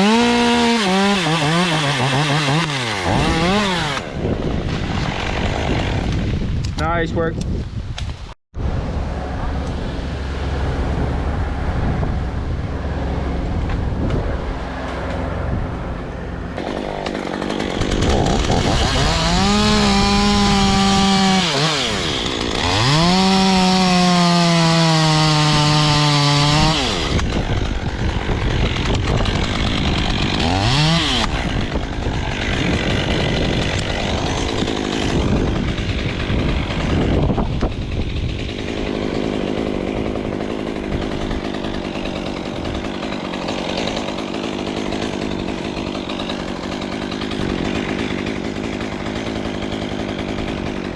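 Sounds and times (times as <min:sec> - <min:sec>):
chainsaw cutting: 0:00.0 - 0:07.0, 0:09.0 - 0:50.9.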